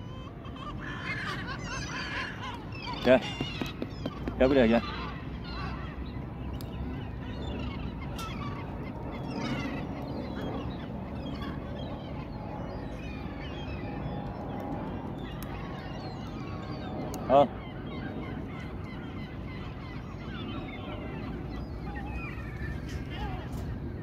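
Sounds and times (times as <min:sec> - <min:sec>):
gulls calling: 0:00.0 - 0:24.0.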